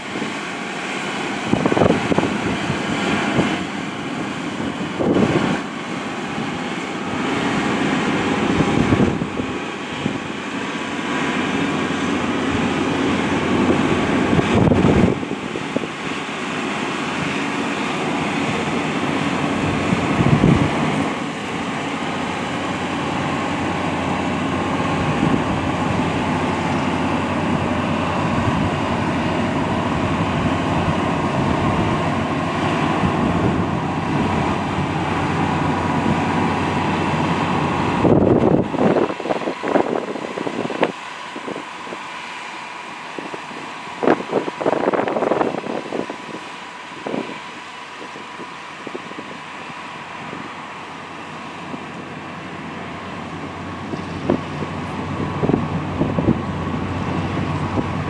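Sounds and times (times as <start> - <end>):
diesel engine droning: 0.0 - 58.0
wind buffeting microphone: 1.0 - 42.2, 43.0 - 58.0.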